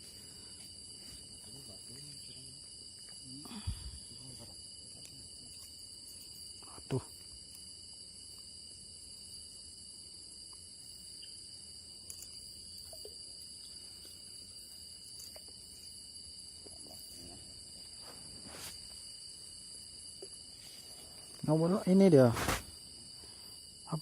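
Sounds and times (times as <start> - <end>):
insect trills: 0.0 - 24.0.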